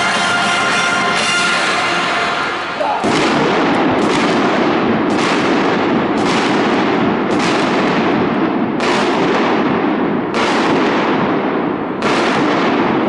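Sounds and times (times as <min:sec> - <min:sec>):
fireworks bangs and crackle: 0:00.0 - 0:13.0
heavy firework bursts: 0:00.0 - 0:13.0.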